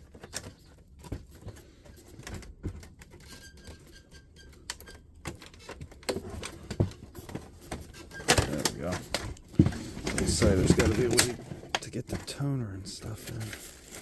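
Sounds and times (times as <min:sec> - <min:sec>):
plastic and metal parts clicking: 0:00.0 - 0:14.0.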